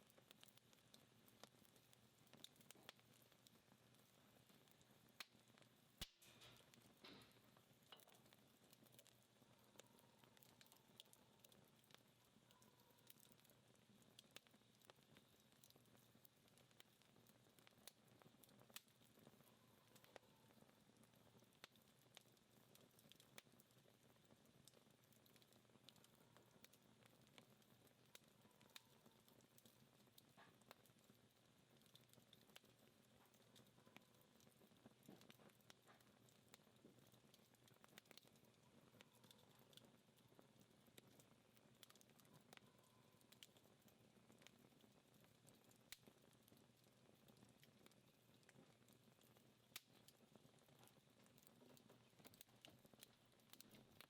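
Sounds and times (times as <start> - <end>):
embers popping and ticking: 0.0 - 54.0
wood fire crackling: 0.0 - 54.0.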